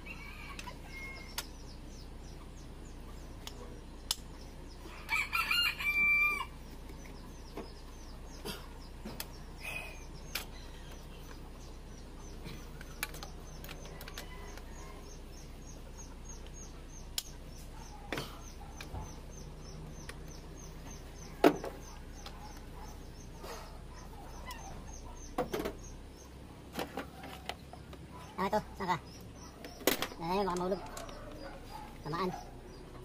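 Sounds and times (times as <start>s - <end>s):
high chirping: 0.0s - 33.0s.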